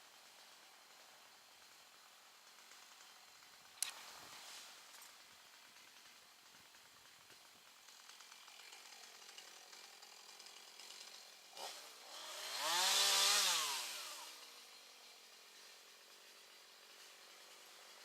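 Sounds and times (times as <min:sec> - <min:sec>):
chainsaw revving: 0:00.2 - 0:18.0.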